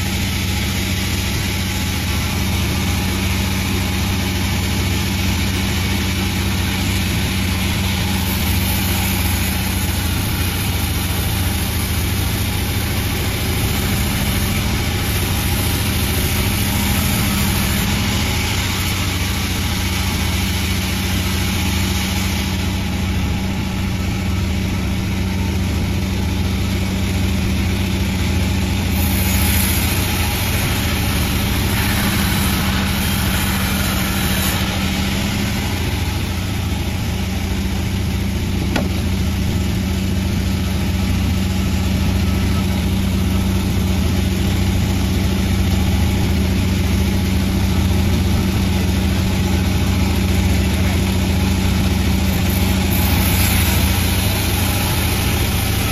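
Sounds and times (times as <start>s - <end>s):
sawmill machine hum: 0.0s - 55.9s
bright hiss: 0.1s - 24.6s, 28.8s - 55.9s.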